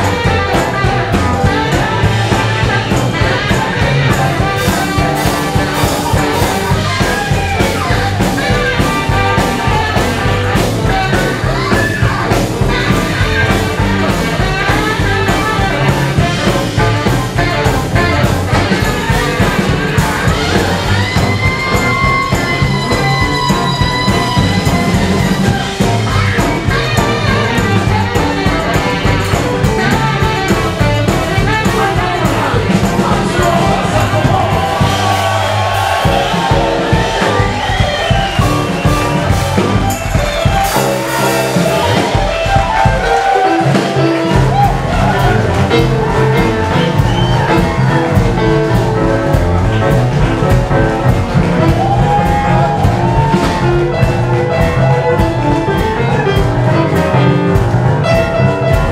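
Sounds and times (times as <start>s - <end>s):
bass line: 0.0s - 58.9s
drums: 0.0s - 58.9s
tenor saxophone solo: 0.0s - 58.9s.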